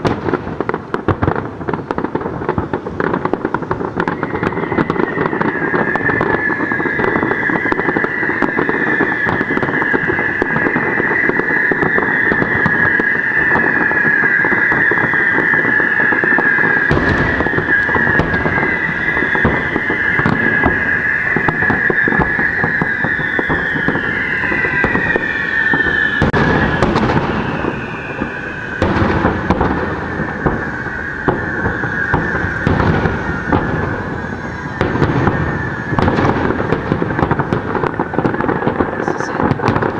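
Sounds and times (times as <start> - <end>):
firework shells bursting: 0.0 - 39.9
fireworks crackling: 0.0 - 39.9
whistling fireworks falling in pitch: 0.0 - 39.9.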